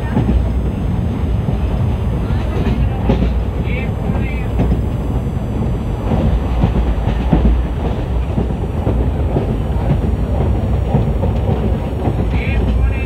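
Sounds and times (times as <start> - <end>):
train coach rumbling: 0.0 - 13.0
wheels clattering over rails: 0.0 - 13.0.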